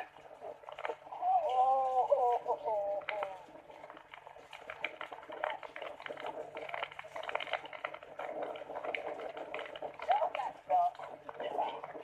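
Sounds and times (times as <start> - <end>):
water splashing and gurgling: 0.0 - 12.0.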